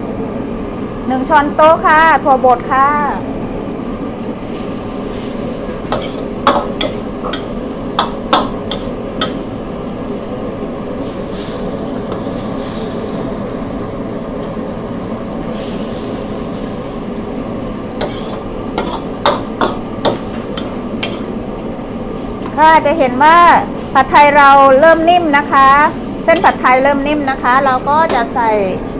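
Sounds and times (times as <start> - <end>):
food sizzling: 0.4 - 28.9.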